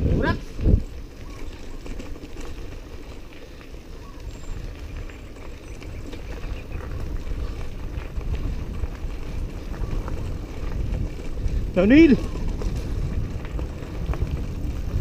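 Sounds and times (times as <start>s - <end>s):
wind on microphone: 0.0s - 2.5s, 3.9s - 15.0s
bicycle tyres rumbling on gravel: 0.0s - 15.0s.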